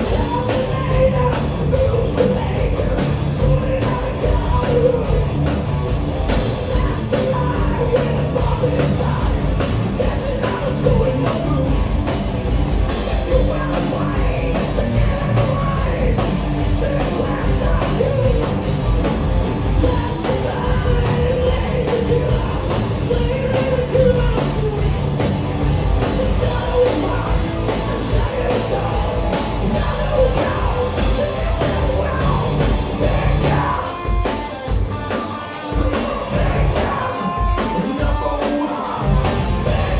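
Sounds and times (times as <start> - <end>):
person singing: 0.0 - 5.4, 6.4 - 12.2, 13.1 - 19.1, 19.8 - 39.9
rock band playing: 0.0 - 39.9.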